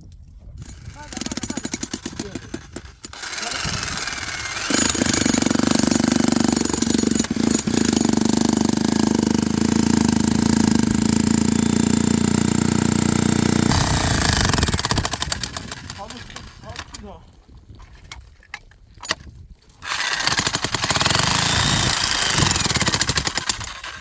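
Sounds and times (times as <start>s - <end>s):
small engine running: 0.6s - 16.8s, 19.8s - 24.0s.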